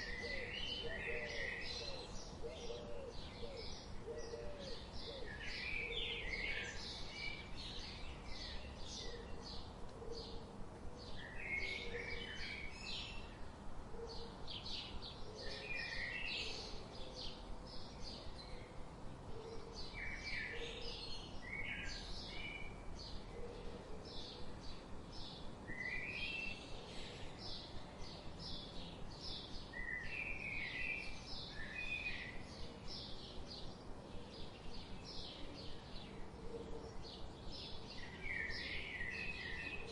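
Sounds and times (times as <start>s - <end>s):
background noise: 0.0s - 39.9s
rising bird song: 0.0s - 39.9s.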